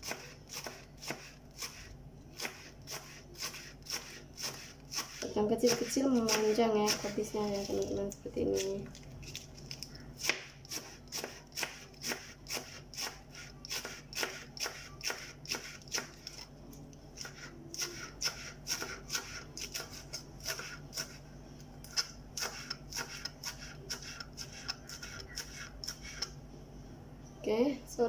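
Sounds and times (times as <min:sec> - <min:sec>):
knife slicing cabbage on board: 0:00.0 - 0:09.4, 0:10.2 - 0:16.4, 0:17.2 - 0:21.2, 0:21.9 - 0:26.3.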